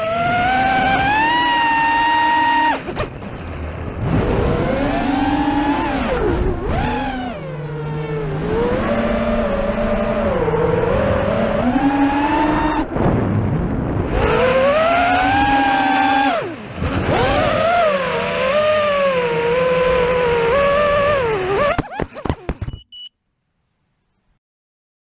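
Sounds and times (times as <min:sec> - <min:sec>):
stuttering clatter: 0:00.0 - 0:22.8
drone propellers whining: 0:00.0 - 0:22.9.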